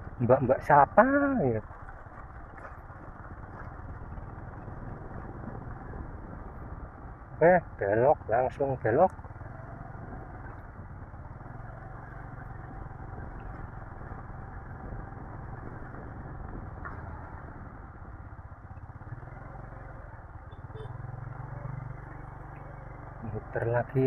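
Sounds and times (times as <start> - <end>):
motorcycle engine running: 0.0 - 24.0
road rumble: 0.0 - 24.0.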